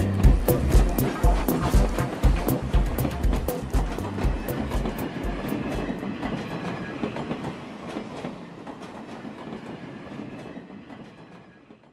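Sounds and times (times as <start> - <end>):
train wheels clicking over rail joints: 0.0 - 11.9.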